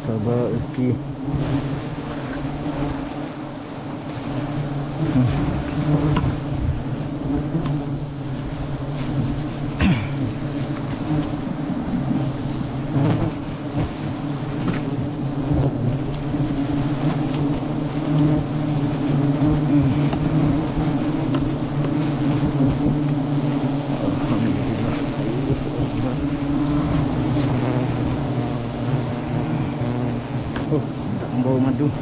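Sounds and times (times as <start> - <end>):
bees buzzing: 0.0 - 32.0.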